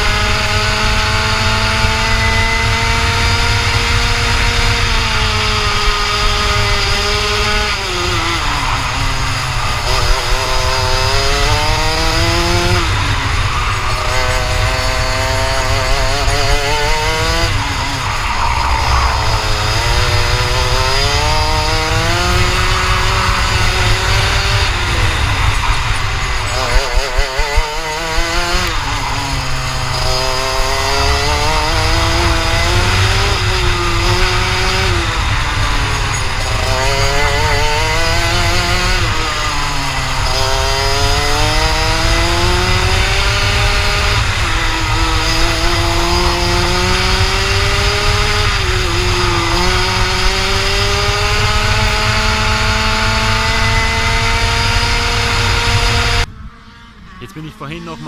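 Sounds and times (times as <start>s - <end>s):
kart engine at racing speed: 0.0s - 58.0s.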